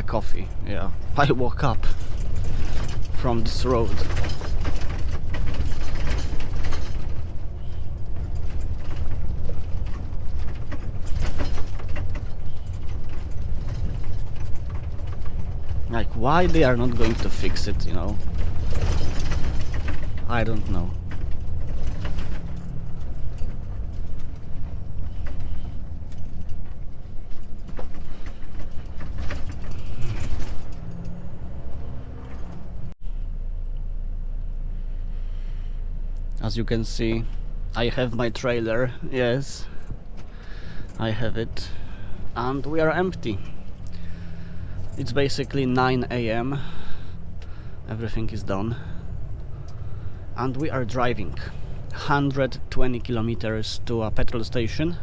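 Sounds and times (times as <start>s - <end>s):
cab fittings rattling: 0.0s - 32.9s, 37.0s - 55.0s
truck road rumble: 0.0s - 55.0s.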